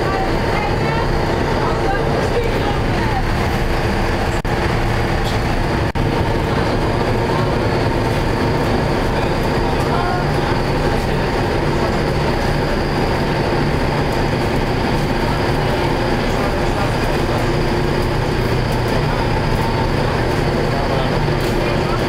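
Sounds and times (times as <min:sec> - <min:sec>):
boat engines droning: 0:00.0 - 0:22.0
water rushing along hull: 0:00.0 - 0:22.0.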